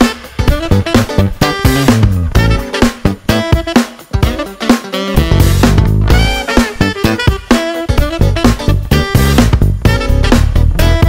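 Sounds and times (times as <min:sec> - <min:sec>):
instrumental music with drum beat: 0:00.0 - 0:11.0.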